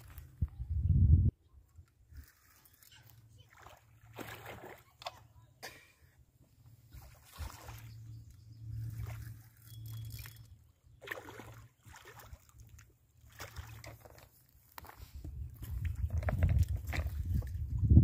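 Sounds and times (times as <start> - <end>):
water sloshing and splashing: 1.8 - 5.4, 6.6 - 18.0.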